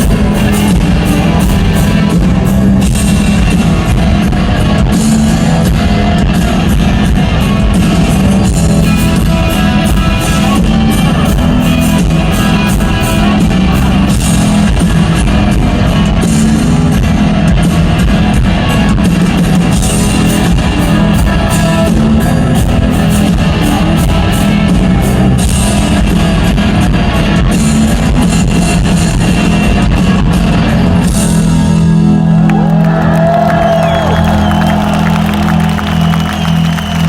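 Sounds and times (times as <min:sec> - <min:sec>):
electric guitar sliding and bending: 0:00.0 - 0:32.9
rock band playing: 0:00.0 - 0:37.0.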